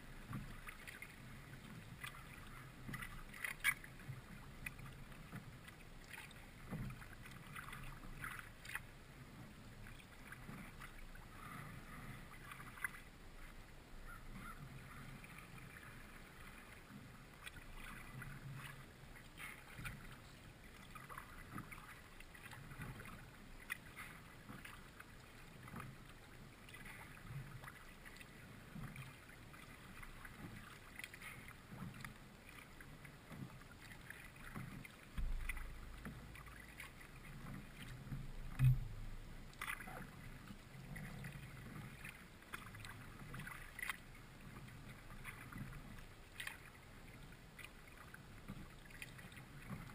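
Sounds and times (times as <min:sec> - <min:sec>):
paddle blades dipping and dripping: 0:00.0 - 0:49.9.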